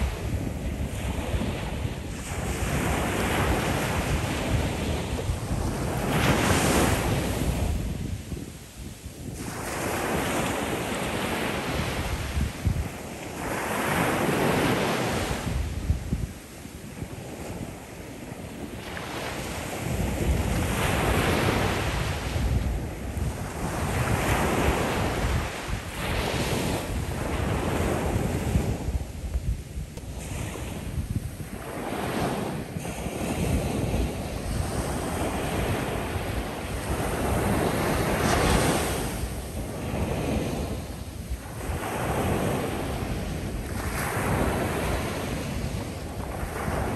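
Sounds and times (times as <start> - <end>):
low rumble of surf: 0.0 - 46.9
ocean waves breaking on shore: 0.0 - 46.9.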